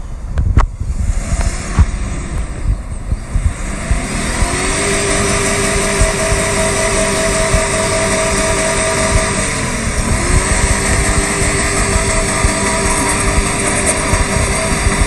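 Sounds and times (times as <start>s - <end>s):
engine revving high: 0.8s - 15.0s.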